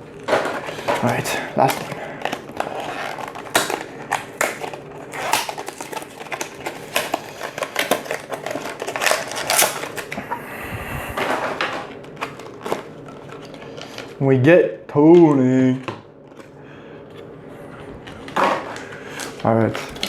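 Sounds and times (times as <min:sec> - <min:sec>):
packaging crinkling and rustling: 0:00.0 - 0:10.4, 0:11.2 - 0:14.2, 0:15.7 - 0:20.0.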